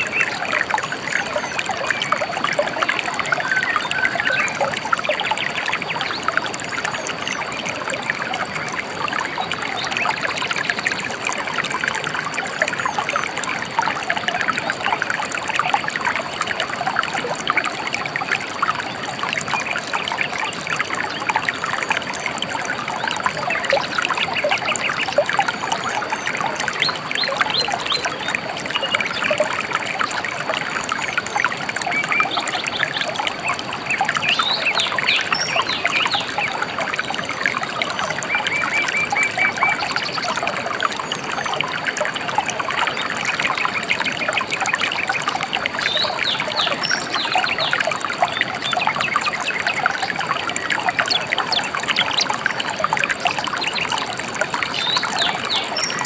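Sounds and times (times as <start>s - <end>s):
river trickling and babbling: 0.0s - 56.0s.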